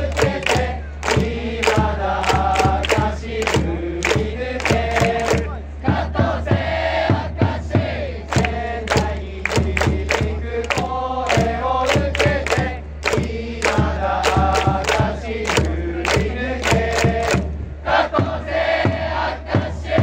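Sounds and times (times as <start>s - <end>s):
crowd chanting a cheer song: 0.0s - 20.0s.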